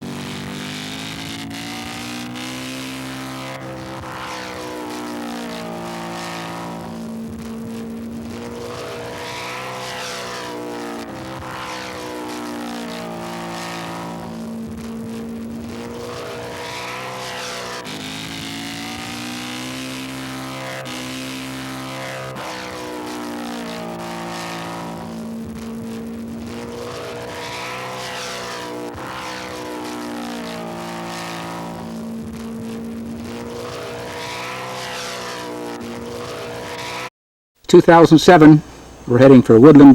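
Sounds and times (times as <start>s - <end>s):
model airplane engines passing: 0.0s - 37.1s.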